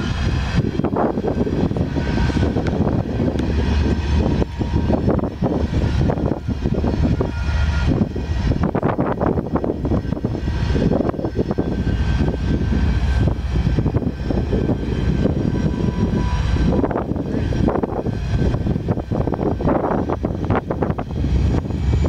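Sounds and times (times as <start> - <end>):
diesel locomotive rumble: 0.0 - 22.0.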